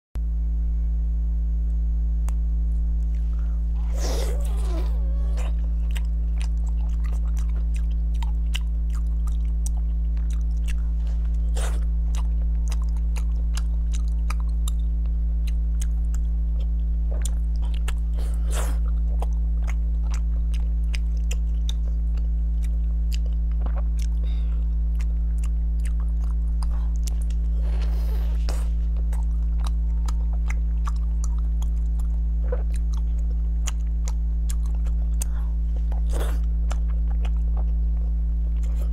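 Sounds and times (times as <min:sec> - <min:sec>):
low electrical hum: 0:00.2 - 0:38.9
crunchy food chewing: 0:03.0 - 0:38.9.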